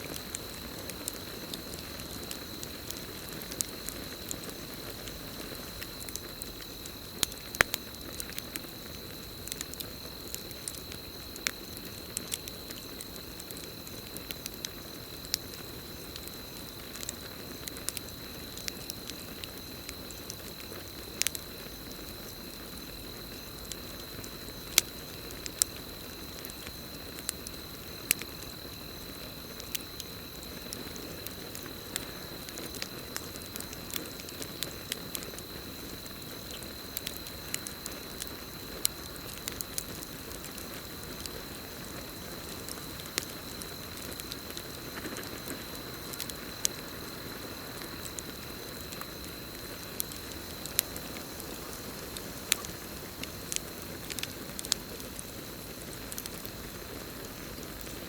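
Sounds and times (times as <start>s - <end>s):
campfire crackling and popping: 0.0s - 58.0s
crickets trilling: 0.0s - 58.0s.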